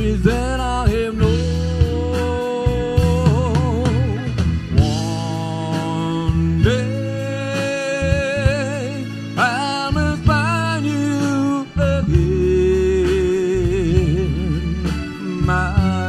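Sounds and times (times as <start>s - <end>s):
lead line with vibrato: 0.0s - 16.0s
live rock band playing: 0.0s - 16.0s.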